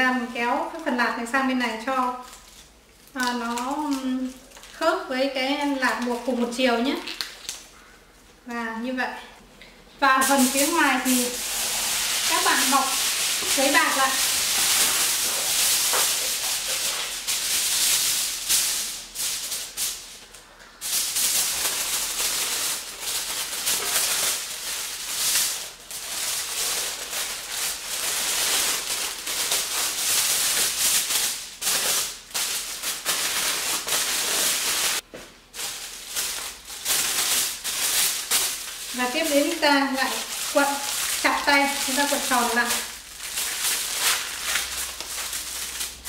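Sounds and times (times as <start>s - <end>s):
aluminium foil crinkling: 0.0s - 7.9s, 10.1s - 46.0s.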